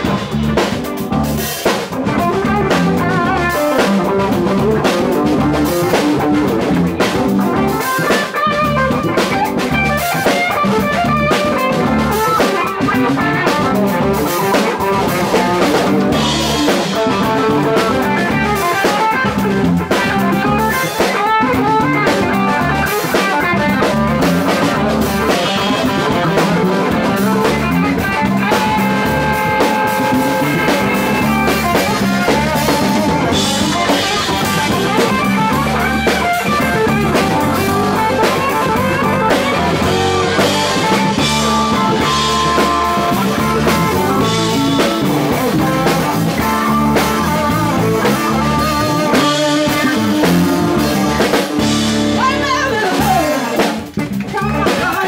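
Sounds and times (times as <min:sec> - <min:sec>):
bass: 0:00.0 - 0:55.0
drum kit: 0:00.0 - 0:55.0
electric guitars: 0:00.0 - 0:55.0.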